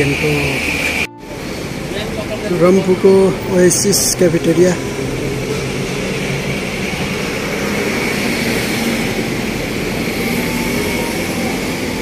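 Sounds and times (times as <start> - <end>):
motor vehicle rush: 0.0 - 12.0.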